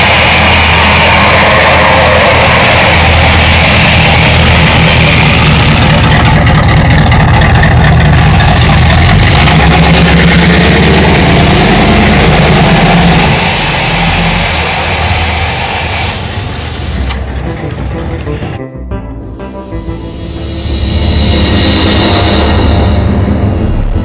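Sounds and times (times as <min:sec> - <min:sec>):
truck engine running steadily: 0:00.0 - 0:24.0.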